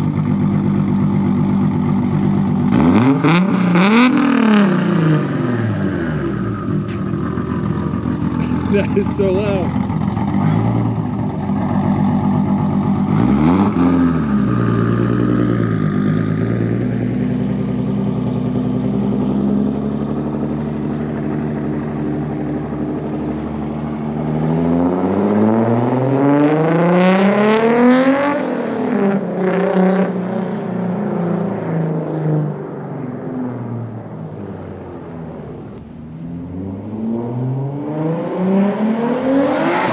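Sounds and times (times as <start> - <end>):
car engine revving: 0.0 - 32.8, 33.8 - 39.9.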